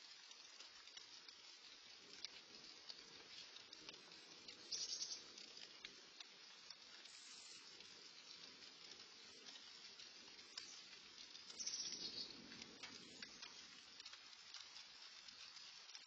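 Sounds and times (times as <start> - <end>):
light rain pattering: 0.0 - 16.0
brief rain hiss: 2.1 - 16.0.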